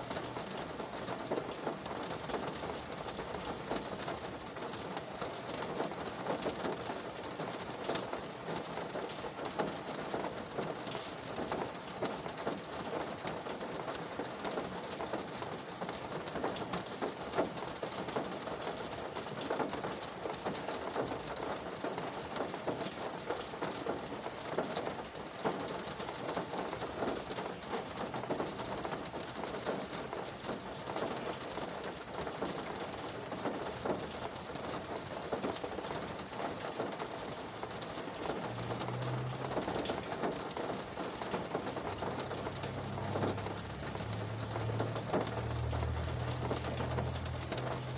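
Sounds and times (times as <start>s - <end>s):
rain on car roof: 0.0s - 47.9s.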